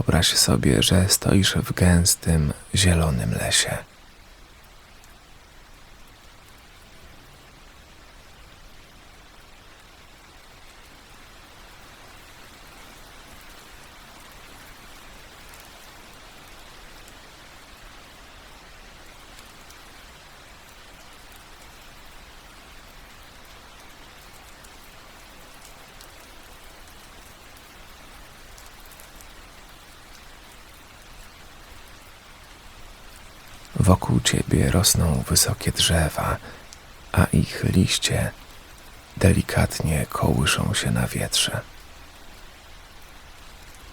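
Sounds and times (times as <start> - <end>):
gentle rain pattering: 0.0 - 43.9.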